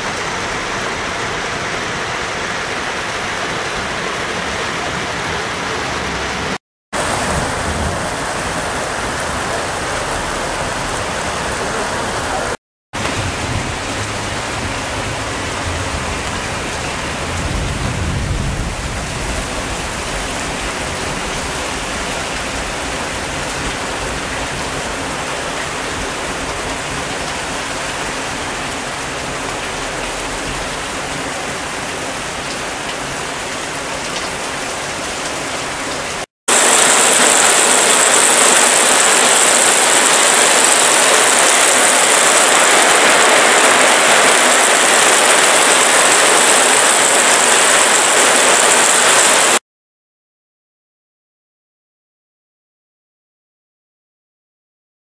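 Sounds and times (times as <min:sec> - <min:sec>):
rain drumming on a plastic roof: 0:00.0 - 0:49.6.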